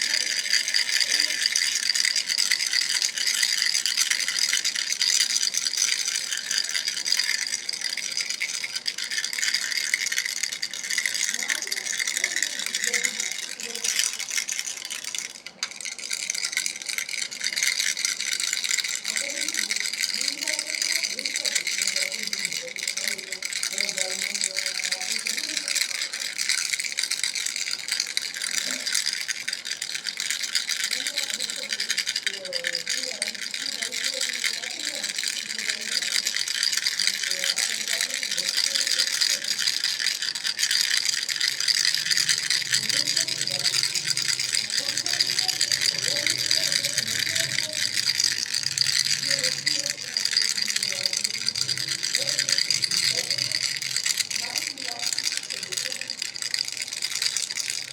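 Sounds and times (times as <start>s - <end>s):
baby rattle shaken: 0.0s - 57.9s.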